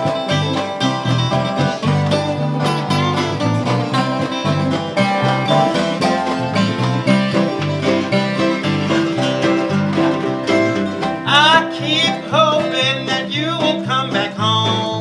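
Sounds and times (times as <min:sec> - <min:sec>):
banjo playing: 0:00.0 - 0:15.0
guitar playing: 0:00.0 - 0:15.0
steady bass line: 0:00.0 - 0:15.0.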